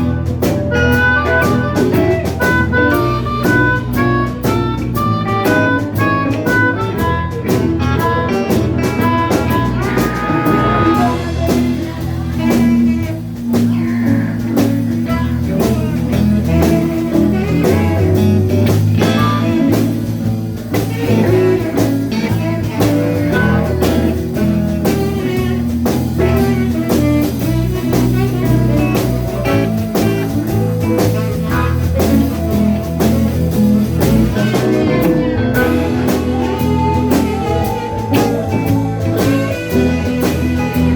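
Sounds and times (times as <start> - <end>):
drum kit beat: 0.0 - 40.9
guitar: 0.0 - 40.9
live blues band playing: 0.0 - 40.9.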